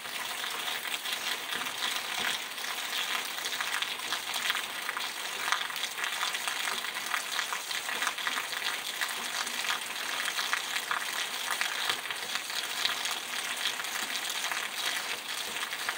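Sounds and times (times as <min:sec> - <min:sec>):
rain on wet pavement: 0:00.0 - 0:15.9.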